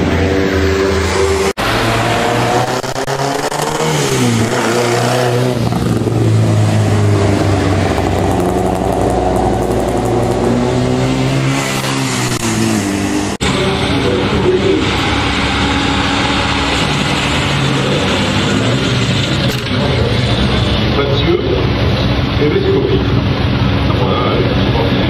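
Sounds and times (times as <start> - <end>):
rally car engines revving: 0.0 - 25.0.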